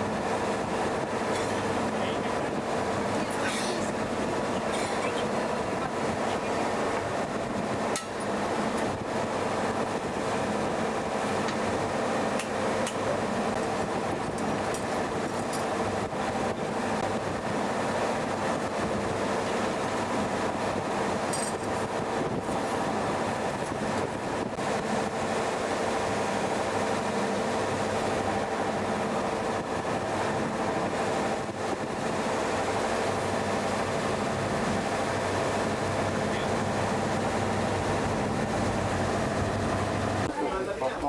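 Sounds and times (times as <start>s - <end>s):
engine and machinery drone: 0.0s - 41.0s.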